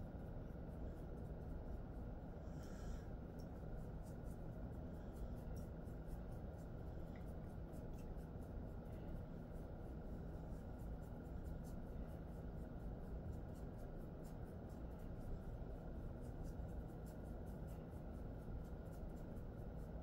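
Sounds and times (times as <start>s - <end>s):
hand rubbing dog fur: 0.1s - 20.0s.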